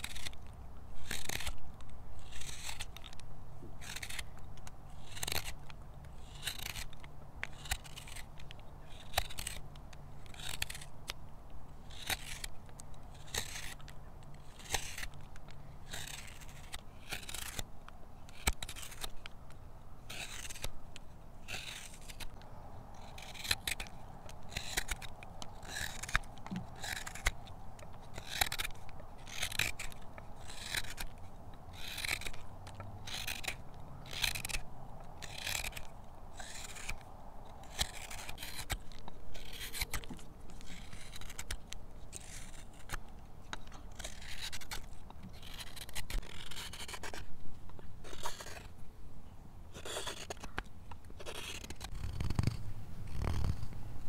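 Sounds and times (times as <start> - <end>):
knife scraping wood: 0.0 - 11.2, 11.8 - 48.8, 49.7 - 53.8.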